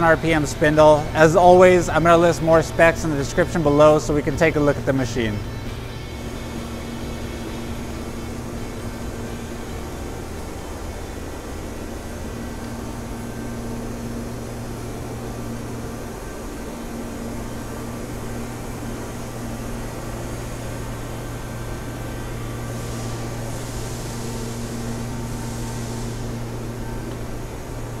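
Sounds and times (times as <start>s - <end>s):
machine-shop electrical hum: 0.0s - 28.0s
bright hiss: 5.1s - 28.0s.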